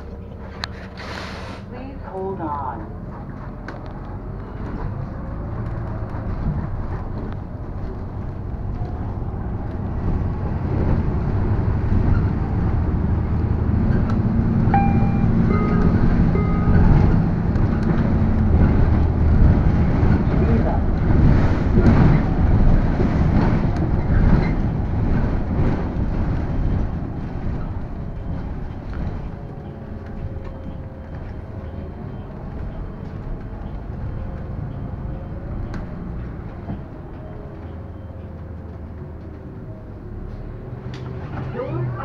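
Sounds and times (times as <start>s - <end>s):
bus engine rumble: 0.0s - 42.0s
idling bus hum with whine: 0.0s - 42.0s.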